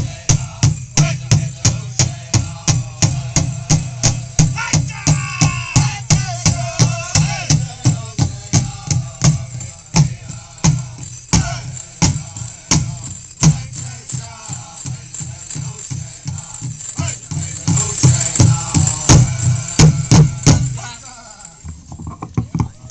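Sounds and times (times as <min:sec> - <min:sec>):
singers chanting: 0:00.0 - 0:21.6
big drum steady beat: 0:00.0 - 0:21.7.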